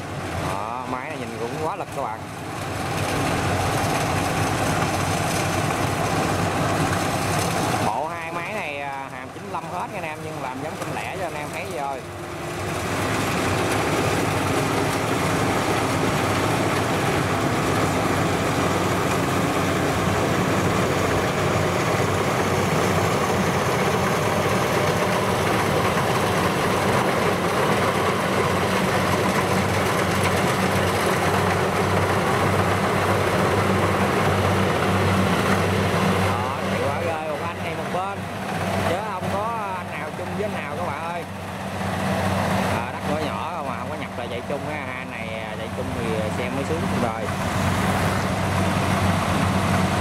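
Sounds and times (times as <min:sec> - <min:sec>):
combine harvester running: 0:00.0 - 0:50.0.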